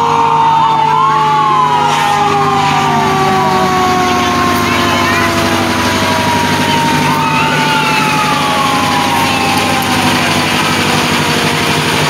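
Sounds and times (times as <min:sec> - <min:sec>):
fire truck engines idling: 0:00.0 - 0:12.0
fire truck siren wailing: 0:00.0 - 0:12.0.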